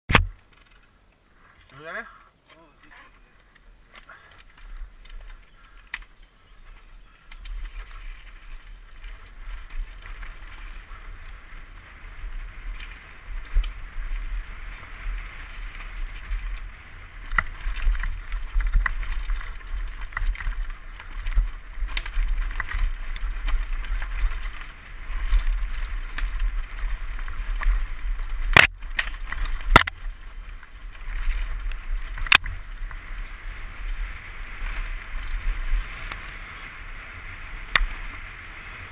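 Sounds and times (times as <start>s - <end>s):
mountain bike rattle and tyre noise: 0.1s - 38.9s
wind rumbling on microphone: 2.8s - 38.9s.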